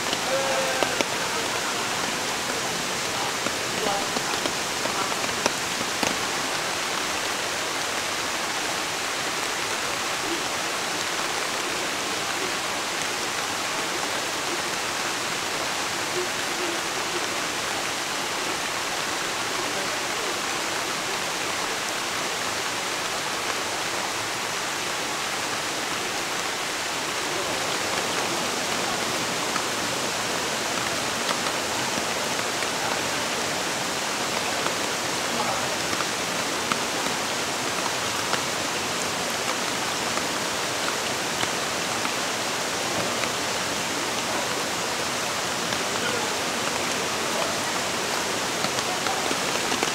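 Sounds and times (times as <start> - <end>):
rain falling on stream: 0.0 - 49.9.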